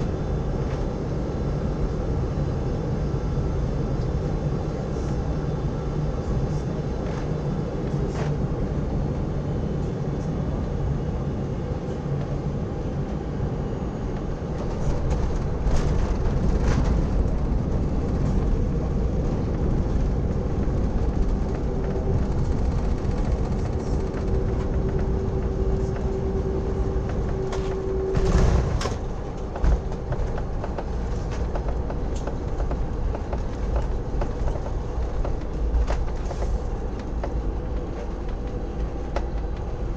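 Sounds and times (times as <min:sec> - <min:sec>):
airplane engine and airflow rumble: 0:00.0 - 0:39.9
steady whine: 0:00.0 - 0:39.9.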